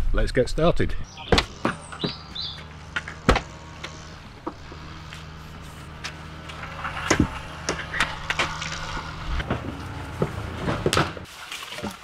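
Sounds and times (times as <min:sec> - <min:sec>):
steady low hum: 0:00.9 - 0:10.9.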